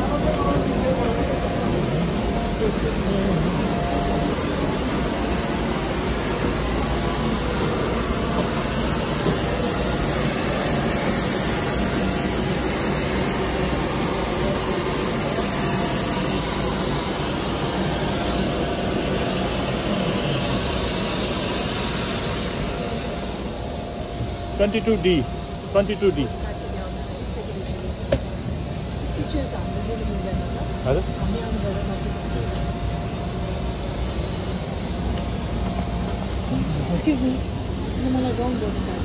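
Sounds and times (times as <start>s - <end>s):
airliner turbines rushing: 0.0s - 39.0s.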